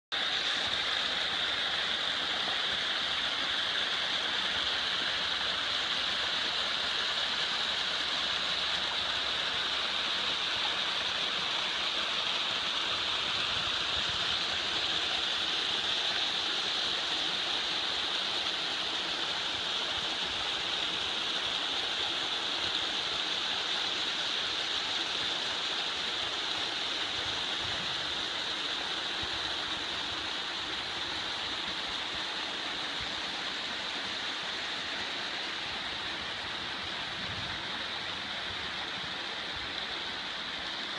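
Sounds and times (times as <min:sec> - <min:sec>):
stream splashing over rocks: 0:00.1 - 0:40.9.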